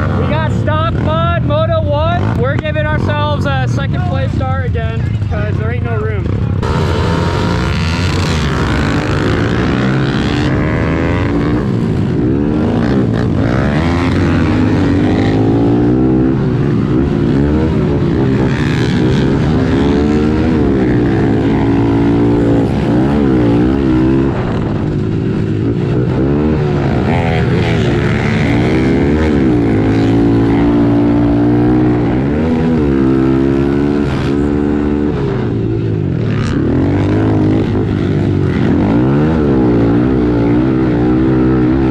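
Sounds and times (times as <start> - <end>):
pit bike engines racing: 0.0 - 41.9.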